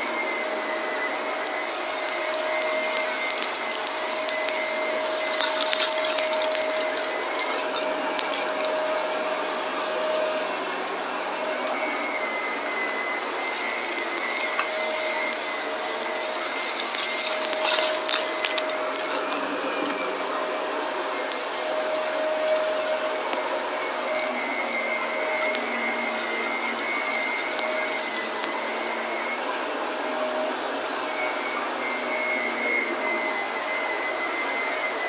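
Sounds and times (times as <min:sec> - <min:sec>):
vacuum cleaner running: 0:00.0 - 0:35.0
debris crackling in vacuum: 0:00.8 - 0:35.0.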